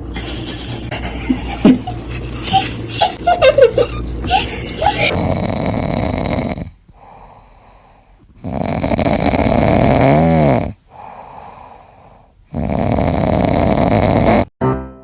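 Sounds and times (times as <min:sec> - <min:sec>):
pet snoring loudly: 0:00.1 - 0:14.5.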